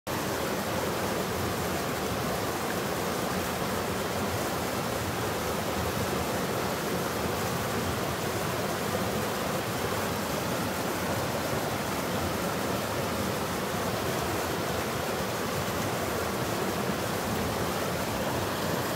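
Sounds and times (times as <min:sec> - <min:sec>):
stream rushing over rocks: 0:00.1 - 0:18.9.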